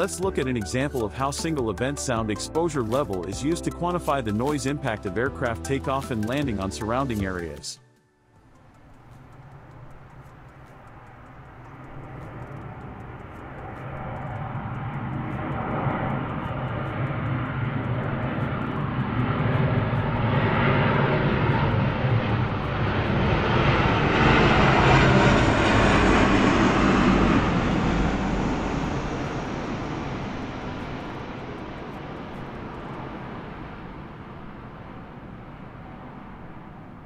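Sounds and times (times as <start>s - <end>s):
jet airliner flying overhead: 0.0s - 37.0s.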